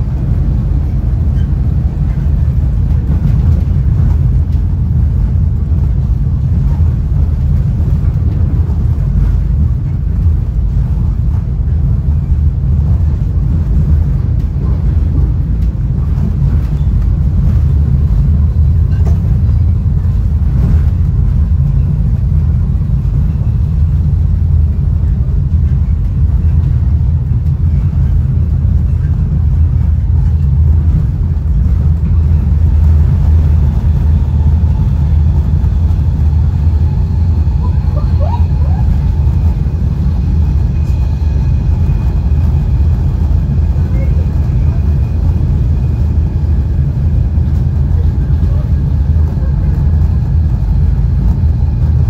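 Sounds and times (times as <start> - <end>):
low rumble of train wheels: 0.0 - 52.0.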